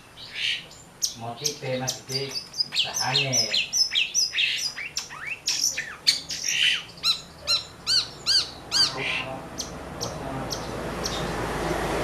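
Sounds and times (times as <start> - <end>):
shrike calling: 0.0 - 11.4.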